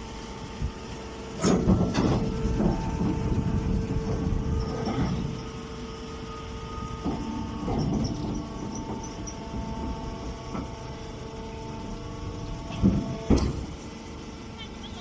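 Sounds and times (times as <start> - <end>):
baling machine motor hum: 0.0 - 15.0.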